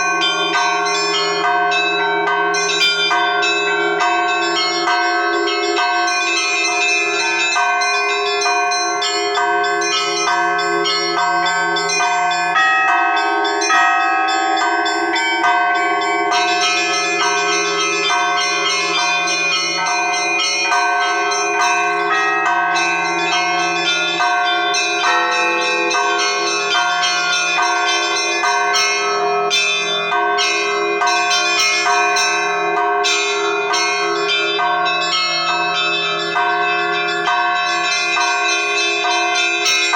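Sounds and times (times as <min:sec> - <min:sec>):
hum of large bells: 0:00.0 - 0:39.9
small church bells ringing: 0:00.0 - 0:39.9.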